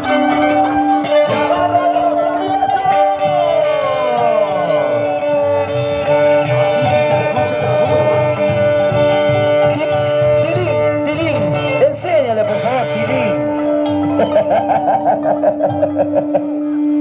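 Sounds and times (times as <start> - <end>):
live band playing dance tune: 0.0 - 17.0.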